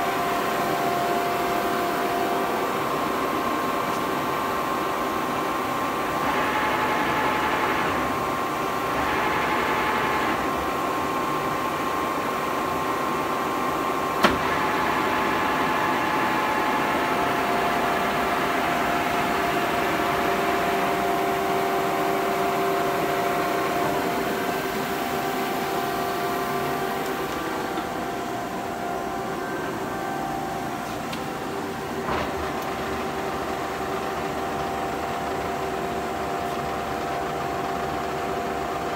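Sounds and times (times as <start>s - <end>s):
lathe hum and gear whine: 0.0s - 38.9s.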